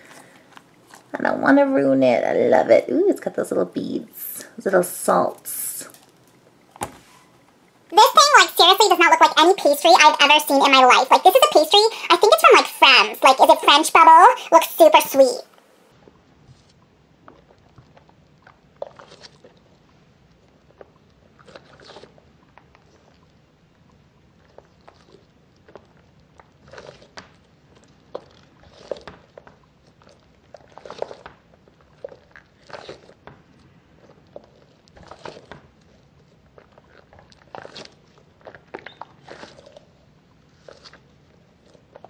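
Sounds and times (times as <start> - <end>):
squishy toy rubbing and crackling: 5.9 - 15.3, 16.0 - 23.4, 24.4 - 42.0.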